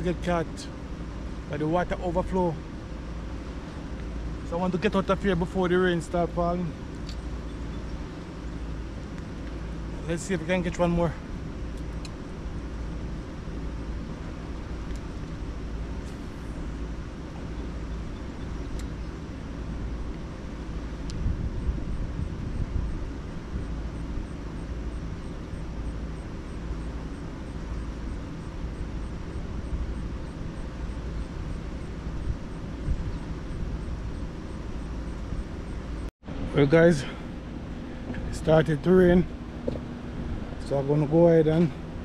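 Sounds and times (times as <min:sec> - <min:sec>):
outdoor rushing noise with rumble: 0:00.0 - 0:42.0.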